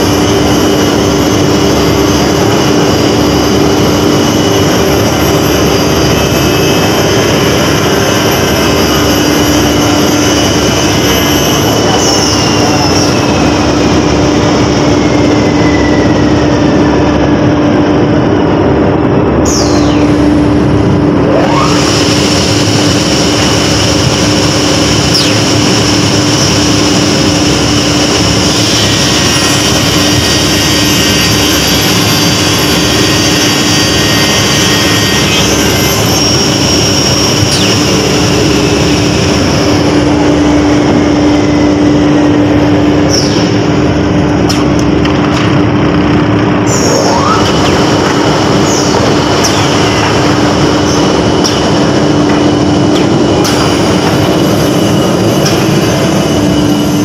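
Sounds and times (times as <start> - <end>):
industrial saw machine drone: 0.0 - 57.0.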